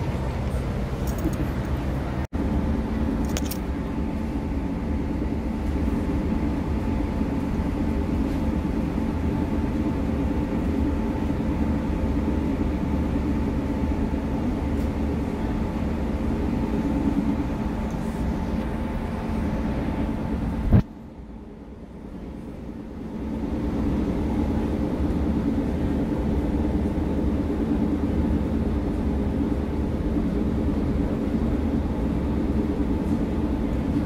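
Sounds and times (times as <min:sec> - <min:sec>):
train rumbling from inside carriage: 0:00.0 - 0:34.0.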